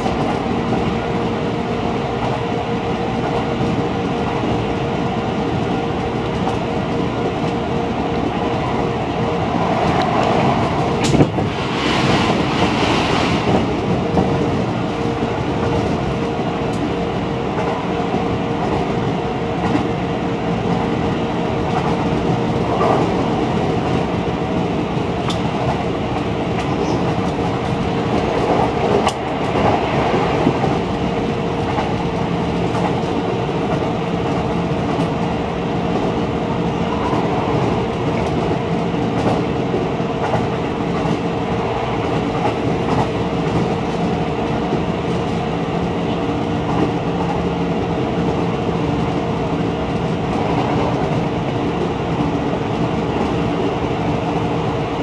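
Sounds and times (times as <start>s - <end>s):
train running noise with hum: 0.0s - 55.0s.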